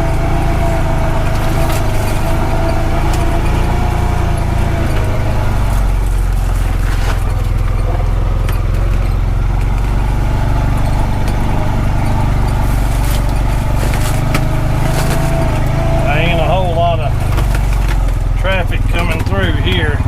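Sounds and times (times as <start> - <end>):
engine running with deep drone: 0.0 - 20.0.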